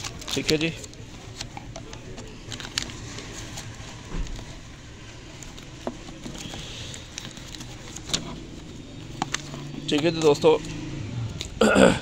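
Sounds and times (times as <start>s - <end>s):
paper pages rustling: 0.0s - 10.7s.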